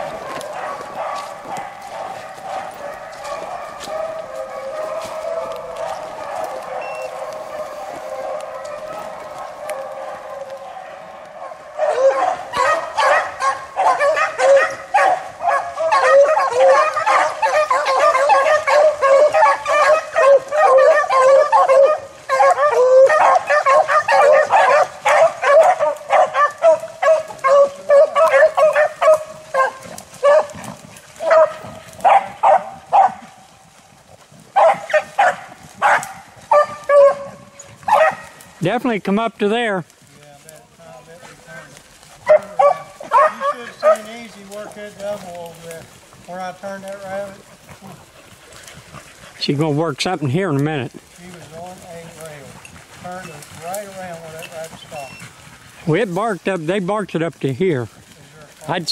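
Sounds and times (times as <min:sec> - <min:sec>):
dogs barking: 0:00.0 - 0:58.9
dogs baying: 0:00.0 - 0:58.9.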